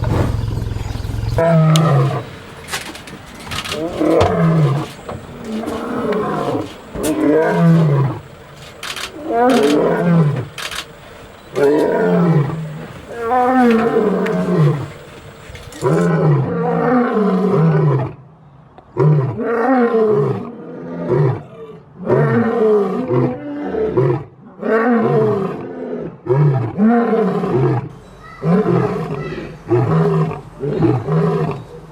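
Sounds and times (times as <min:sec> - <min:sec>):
lion roaring and grunting: 0:00.0 - 0:18.2, 0:18.9 - 0:31.9.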